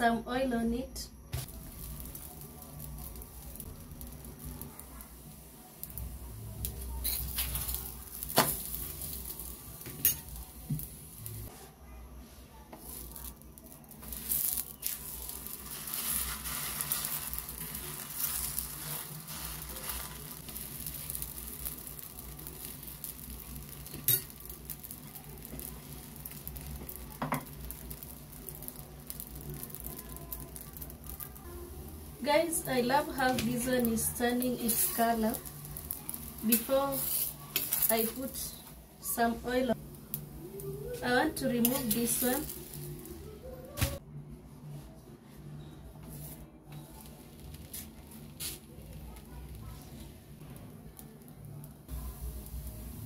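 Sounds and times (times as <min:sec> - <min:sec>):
flatbread sizzling on a pan: 0:01.3 - 0:11.6, 0:12.3 - 0:44.0, 0:46.1 - 0:53.0.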